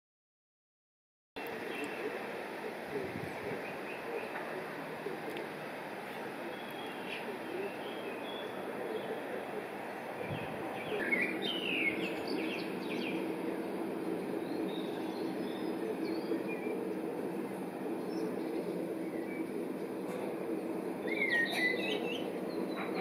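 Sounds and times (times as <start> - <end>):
outdoor background hiss: 1.4 - 23.0
small birds chirping: 1.4 - 23.0.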